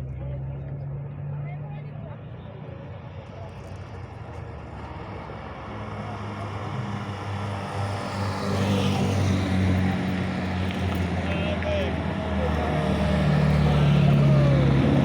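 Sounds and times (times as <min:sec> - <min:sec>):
rally car engine running: 0:00.0 - 0:15.0.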